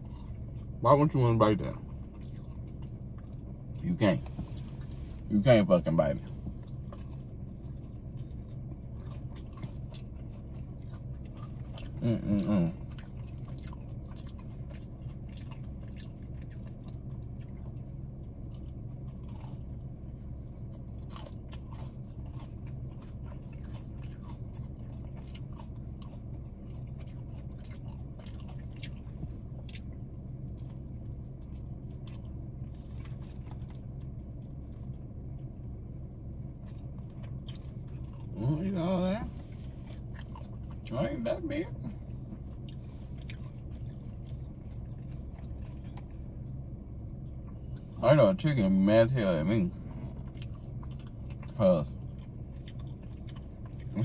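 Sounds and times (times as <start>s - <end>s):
chewing and crunching fried chicken: 0.0s - 54.0s
steady low hum: 0.0s - 54.0s.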